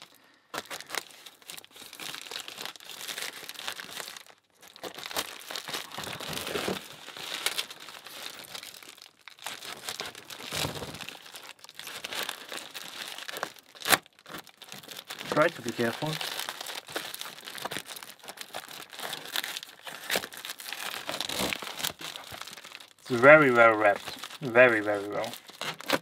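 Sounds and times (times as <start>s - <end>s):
plastic bag crinkling and tearing: 0.0s - 26.0s.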